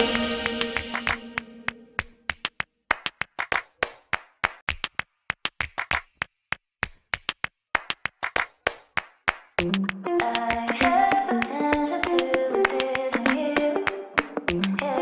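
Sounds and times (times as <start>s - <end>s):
claps and drum hits: 0.0s - 6.3s, 6.9s - 14.9s.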